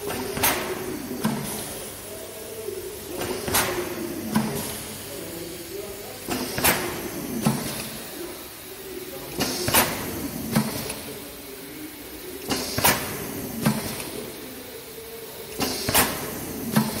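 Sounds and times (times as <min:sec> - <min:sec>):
compressed air exhaust hisses: 0:00.0 - 0:17.0.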